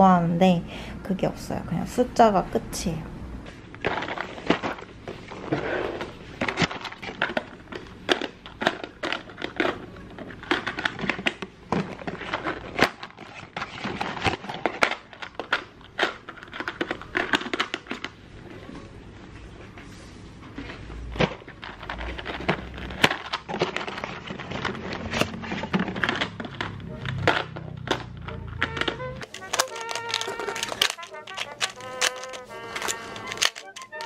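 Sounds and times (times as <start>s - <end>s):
packages rustling into plastic drawer: 3.6s - 34.0s.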